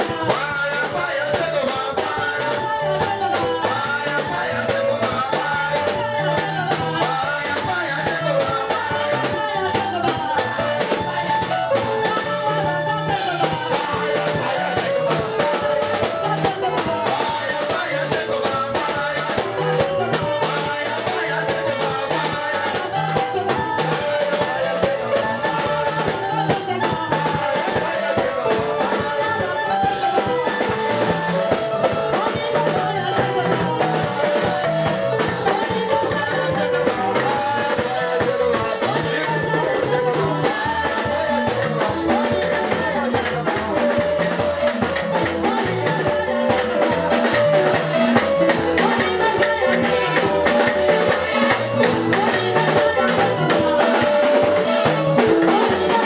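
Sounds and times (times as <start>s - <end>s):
drum kit beat: 0.0s - 56.0s
upbeat band music: 0.0s - 56.0s.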